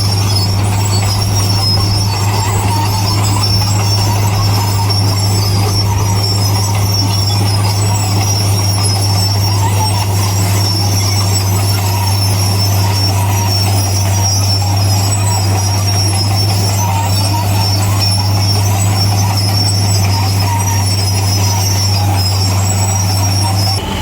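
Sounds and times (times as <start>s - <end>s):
bulldozer diesel engine running: 0.0s - 24.0s
high-pitched track squeal: 0.0s - 24.0s.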